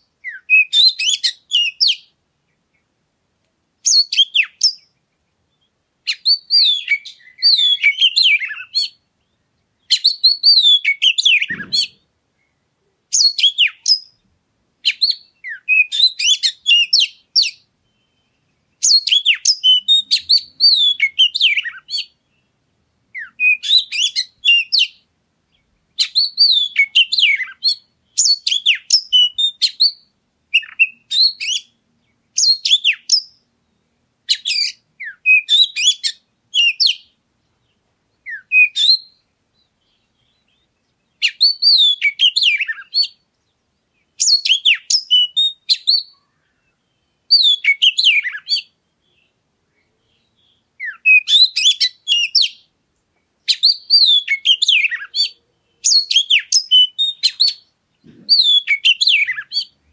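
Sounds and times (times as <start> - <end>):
bird singing whistles and trills: 0.2 - 2.1, 3.8 - 43.3, 44.0 - 52.7, 53.4 - 59.9.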